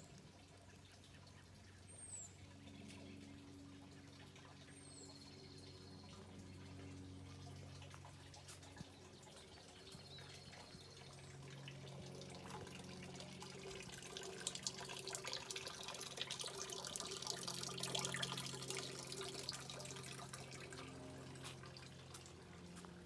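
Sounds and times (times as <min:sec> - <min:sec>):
low steady hum: 0:00.0 - 0:23.0
water trickling and splashing: 0:00.0 - 0:23.0.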